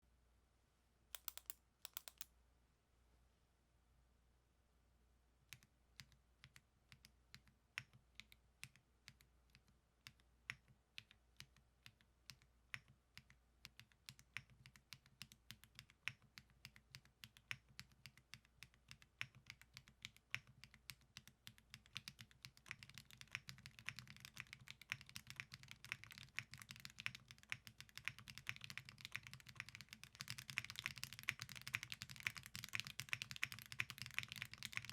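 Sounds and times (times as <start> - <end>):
typing on mechanical keyboard: 1.2 - 2.3, 5.5 - 34.9.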